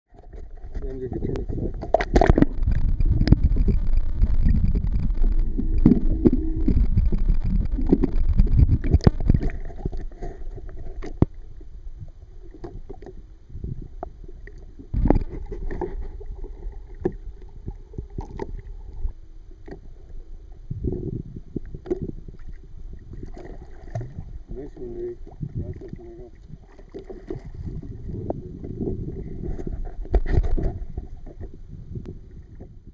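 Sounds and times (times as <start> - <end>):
water lapping on boat hull: 0.1 - 32.8
underwater rumbling and gurgling: 0.1 - 32.9.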